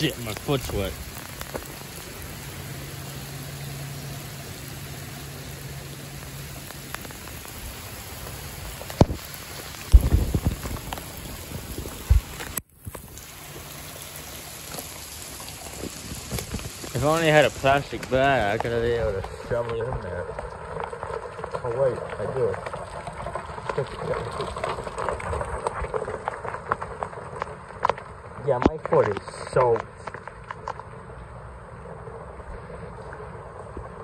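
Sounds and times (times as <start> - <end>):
rain on pavement and grass: 0.0 - 34.0.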